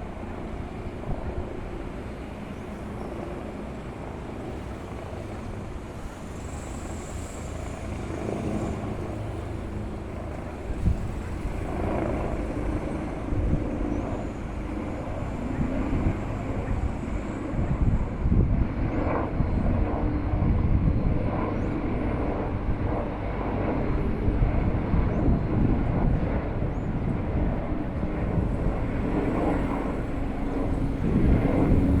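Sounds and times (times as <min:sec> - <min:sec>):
helicopter engine and rotor: 0:00.0 - 0:32.0.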